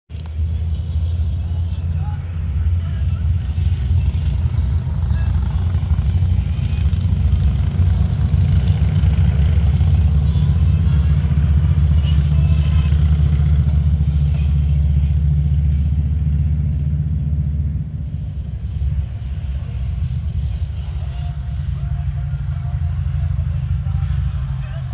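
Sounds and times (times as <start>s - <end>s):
motorcycle engine rumble: 0.1s - 24.9s.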